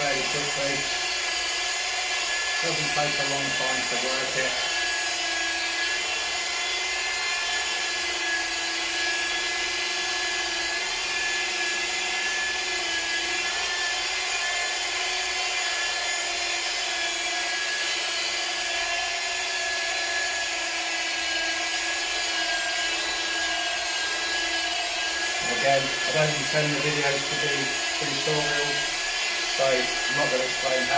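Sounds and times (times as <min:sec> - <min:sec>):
electric polisher motor whine: 0:00.0 - 0:30.9.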